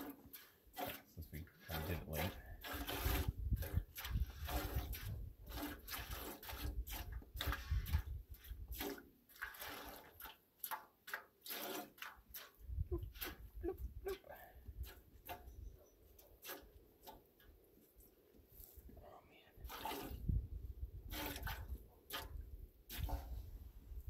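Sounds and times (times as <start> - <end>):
milk squirting into metal pot: 0.0 - 15.6, 19.6 - 23.4.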